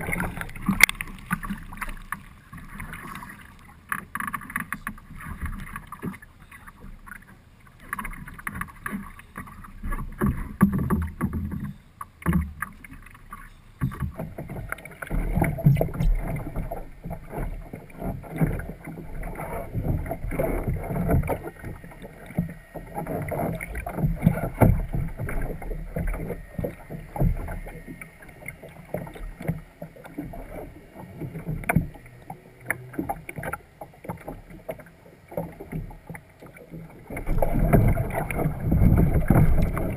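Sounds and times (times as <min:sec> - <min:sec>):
muffled water sloshing and splashing: 0:00.0 - 0:39.9.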